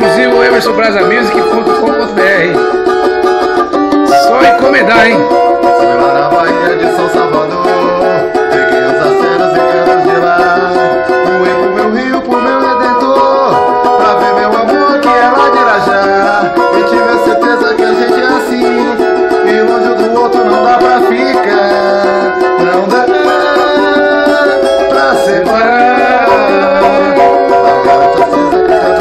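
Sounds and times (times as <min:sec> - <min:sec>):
banjo strummed with a pick: 0:00.0 - 0:29.0.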